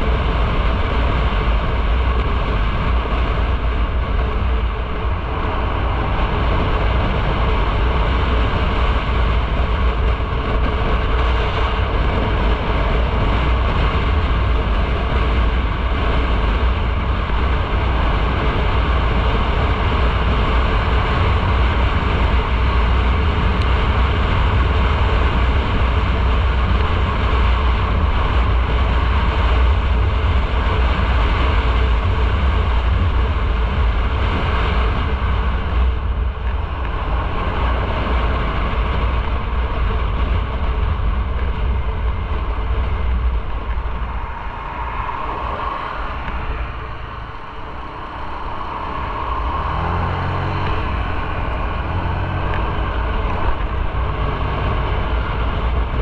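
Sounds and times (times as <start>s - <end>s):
motorcycle road noise: 0.0s - 56.0s
wind rush on microphone: 0.0s - 56.0s.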